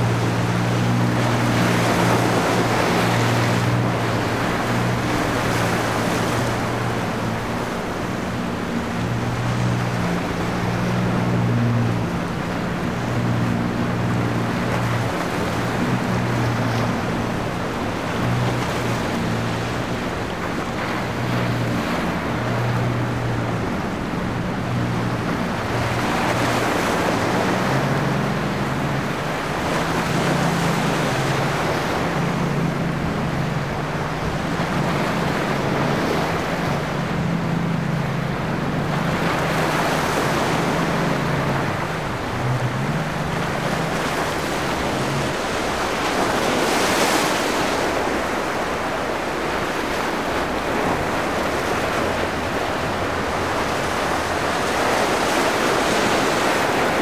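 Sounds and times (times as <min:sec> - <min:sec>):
boat engines droning: 0:00.0 - 0:57.0
waves rushing around a boat hull: 0:00.0 - 0:57.0.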